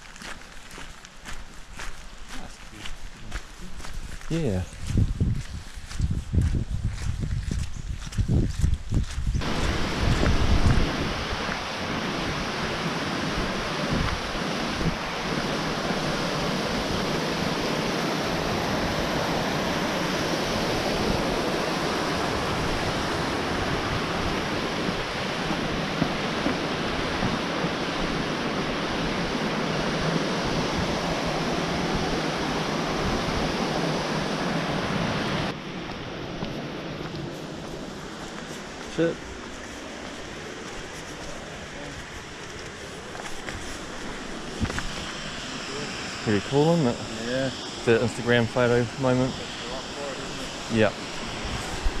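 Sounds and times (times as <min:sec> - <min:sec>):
wind: 0:00.0 - 0:52.0
ocean surf rushing: 0:09.4 - 0:52.0.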